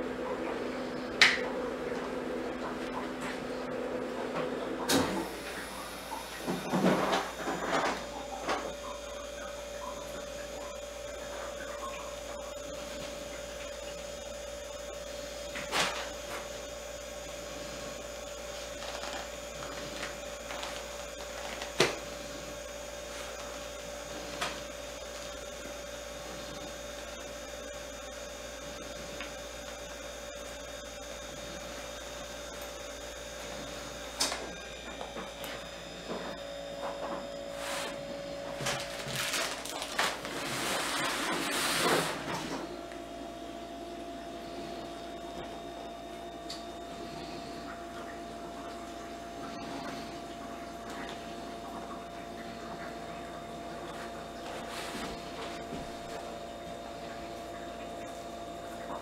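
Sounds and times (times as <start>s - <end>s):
ice machine humming: 0.0s - 59.0s.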